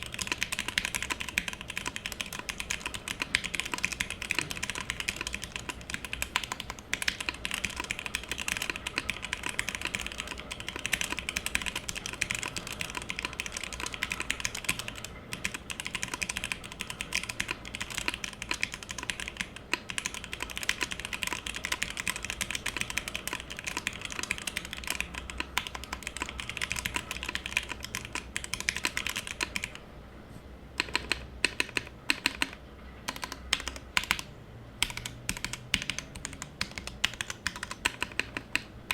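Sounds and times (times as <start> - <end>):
rapid typing on mechanical keyboard: 0.0 - 29.8, 30.8 - 38.9.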